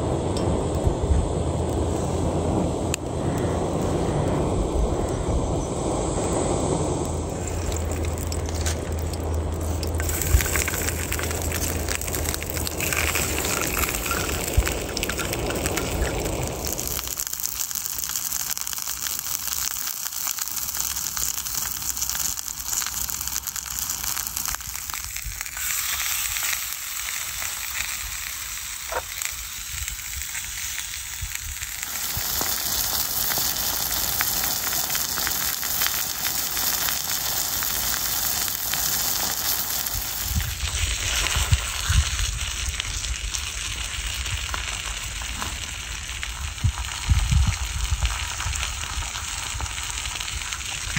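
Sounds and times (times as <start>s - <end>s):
food sizzling in a pan: 7.4s - 50.9s.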